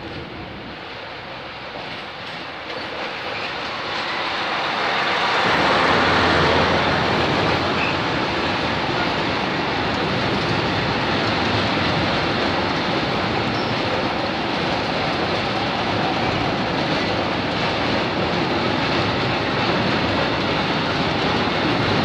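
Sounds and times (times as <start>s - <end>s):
diesel locomotive passing: 0.0s - 22.0s
wagons rolling on rails: 1.7s - 22.0s.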